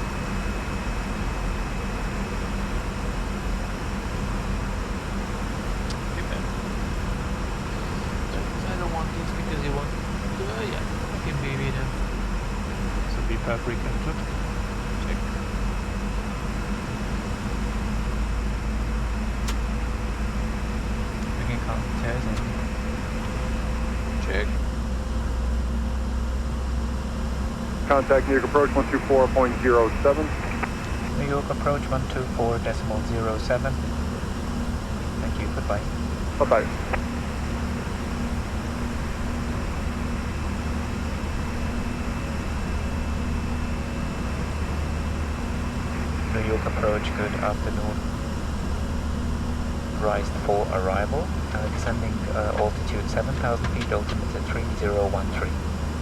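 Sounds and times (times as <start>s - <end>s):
cockpit air rush and ventilation: 0.0s - 56.0s
low engine hum: 0.0s - 56.0s.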